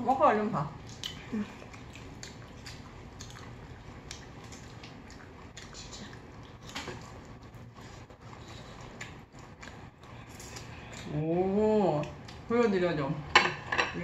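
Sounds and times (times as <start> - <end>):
people chewing food: 0.7 - 12.5.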